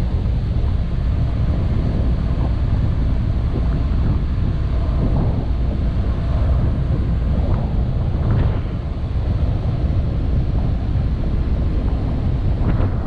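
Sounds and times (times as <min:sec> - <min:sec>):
ferry engine rumble: 0:00.0 - 0:13.0
wind buffeting microphone: 0:00.0 - 0:13.0.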